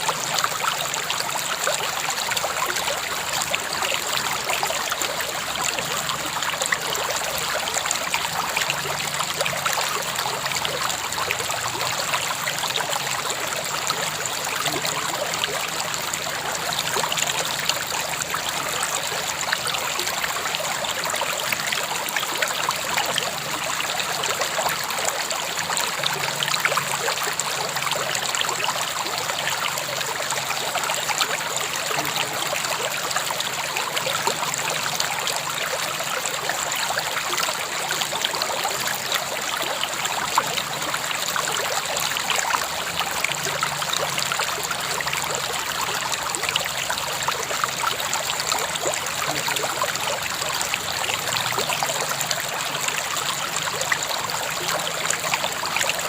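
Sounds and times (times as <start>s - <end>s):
river flowing over stones: 0.0s - 56.0s.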